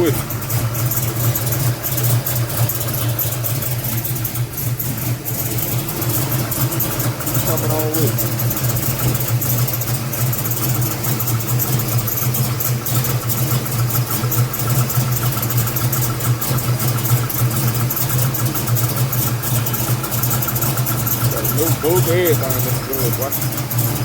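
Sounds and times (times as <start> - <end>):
vee eight engine idling unevenly: 0.0 - 24.0.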